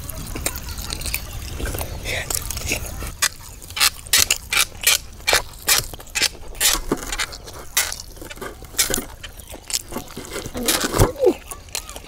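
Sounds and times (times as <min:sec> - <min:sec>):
wet smacking and chewing: 0:00.0 - 0:12.0.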